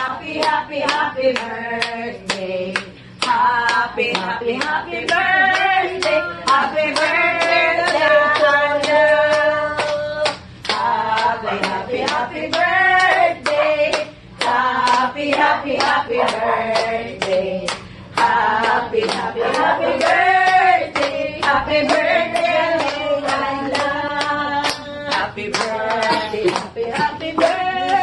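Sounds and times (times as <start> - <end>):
hands clapping to a beat: 0.0 - 28.0
women singing together: 0.0 - 28.0.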